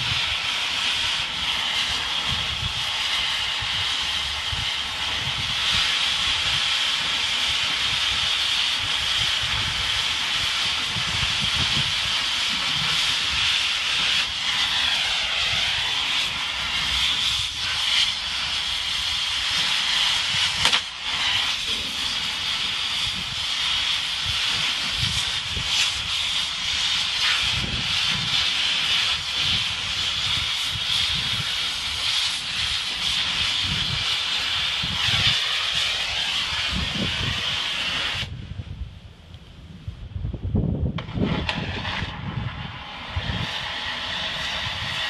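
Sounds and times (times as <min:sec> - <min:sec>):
cutting torch hissing: 0:00.0 - 0:38.4, 0:41.0 - 0:45.0.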